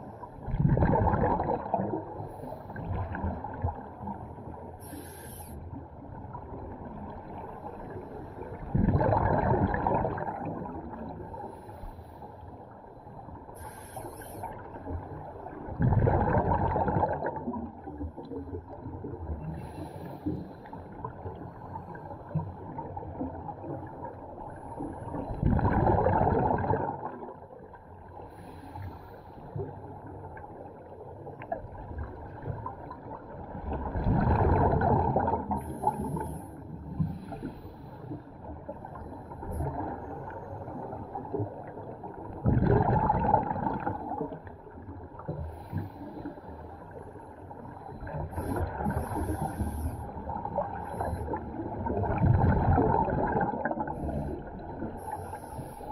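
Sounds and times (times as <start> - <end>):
muffled underwater wash: 0.0 - 55.9
underwater bubbles gurgling: 0.0 - 55.9.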